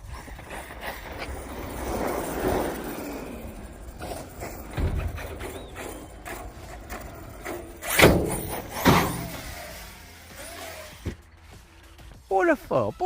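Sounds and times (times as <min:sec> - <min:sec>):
electric rc trucks running: 0:00.0 - 0:12.2.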